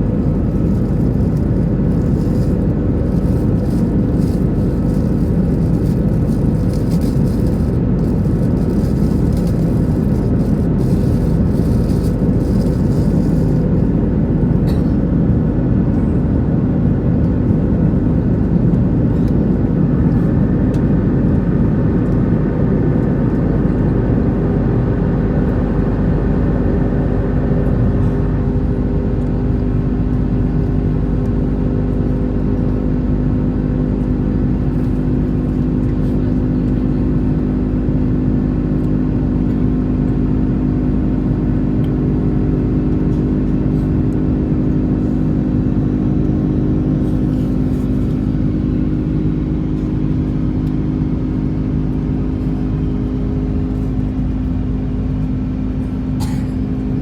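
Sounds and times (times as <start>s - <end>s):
jet engine cabin drone: 0.0s - 57.0s.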